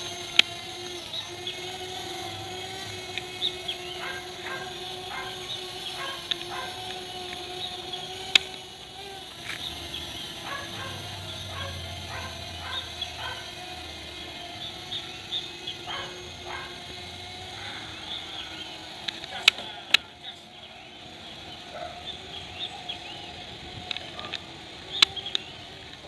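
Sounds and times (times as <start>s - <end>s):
sharp clicks: 0.0s - 20.1s, 23.7s - 26.0s.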